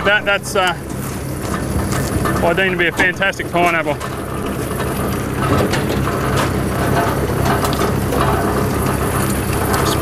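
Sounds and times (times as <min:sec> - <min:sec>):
conveyor clattering and rattling: 0:00.0 - 0:10.0
harvester engine hum: 0:00.0 - 0:10.0.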